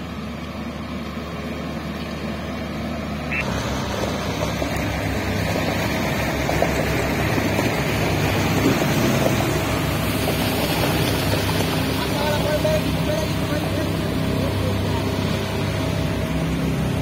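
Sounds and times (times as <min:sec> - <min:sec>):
road roller diesel engine: 0:00.0 - 0:17.0.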